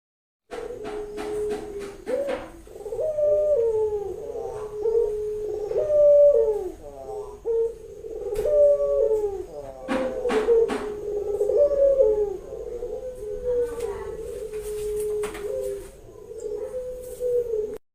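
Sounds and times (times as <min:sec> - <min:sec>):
dove cooing: 0:00.5 - 0:17.8.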